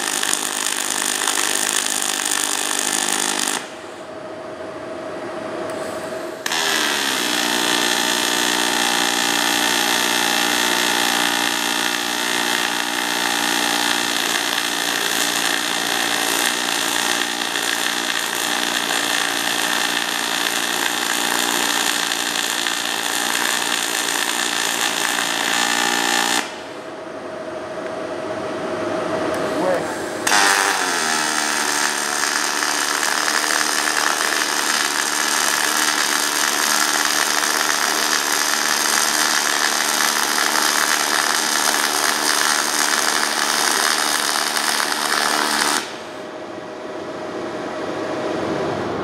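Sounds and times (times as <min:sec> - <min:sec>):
welding arc hissing: 0:00.0 - 0:04.0, 0:05.7 - 0:26.8, 0:29.6 - 0:46.2
welding machine hum: 0:00.0 - 0:04.1, 0:05.6 - 0:26.9, 0:29.2 - 0:46.4.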